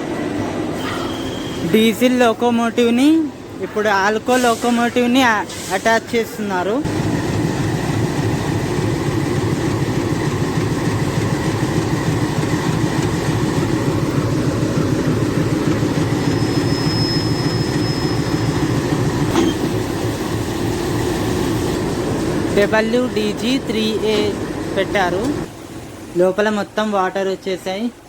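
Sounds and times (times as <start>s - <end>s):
diesel locomotive idling: 0.0s - 27.6s.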